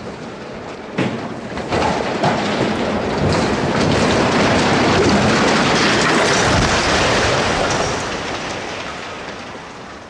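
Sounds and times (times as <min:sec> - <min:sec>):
steel tower collapsing crash: 0:00.9 - 0:10.0.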